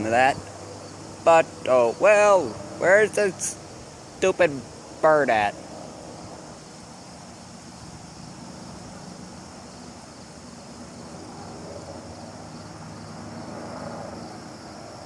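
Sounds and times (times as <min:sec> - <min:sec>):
distant helicopter drone: 0:00.0 - 0:15.0.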